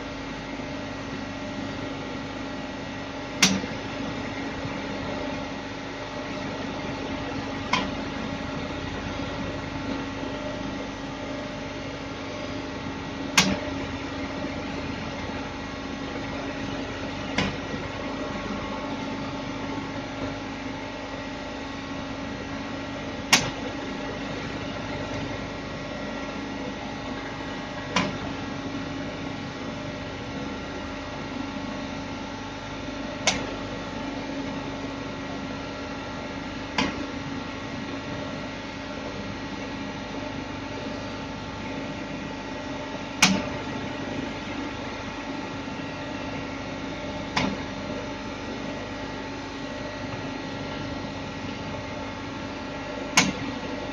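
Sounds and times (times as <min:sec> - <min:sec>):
electrical hum: 0:00.0 - 0:53.9.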